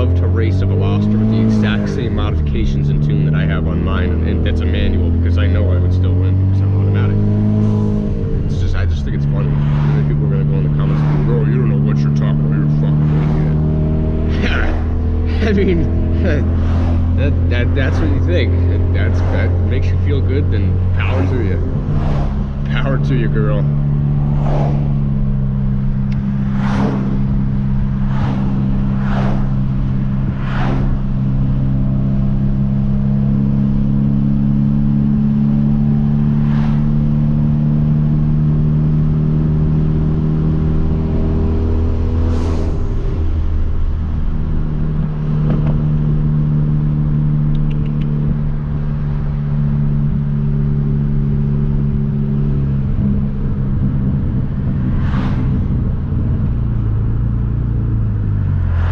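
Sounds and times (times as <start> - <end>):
car engine droning while cruising: 0.0 - 58.9.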